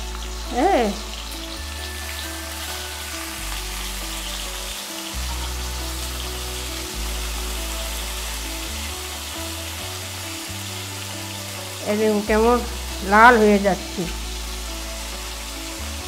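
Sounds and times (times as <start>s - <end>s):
background music: 0.0s - 16.0s
prawns sizzling in hot oil: 0.0s - 16.0s.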